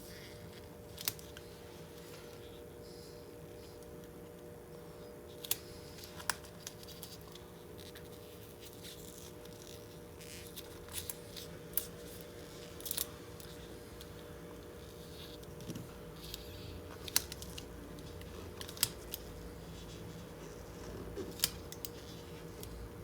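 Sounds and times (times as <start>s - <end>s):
steady electrical hum: 0.0s - 23.0s.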